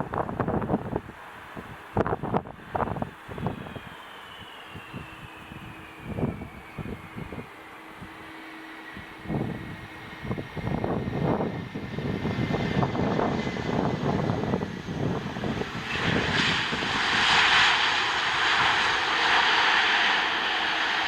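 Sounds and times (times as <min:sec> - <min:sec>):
jet airliner passing: 0:00.0 - 0:21.0.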